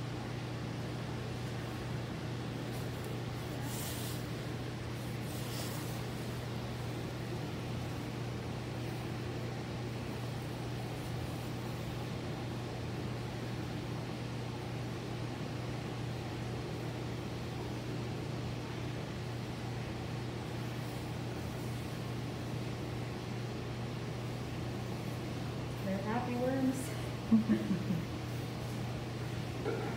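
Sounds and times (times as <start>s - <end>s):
aquarium equipment humming: 0.0s - 29.9s.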